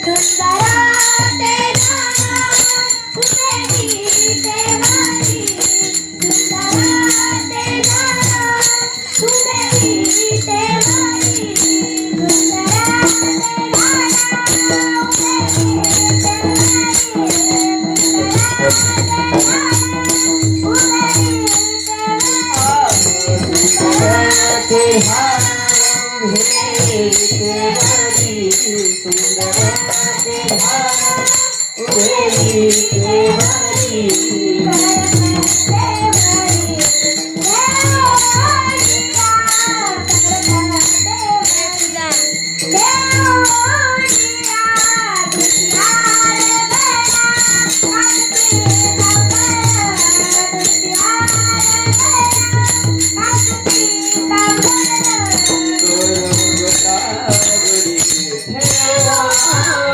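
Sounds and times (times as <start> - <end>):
jingling metallic percussion: 0.0 - 59.9
rhythmic drumming: 0.0 - 59.9
woman singing devotional melody: 0.0 - 59.9.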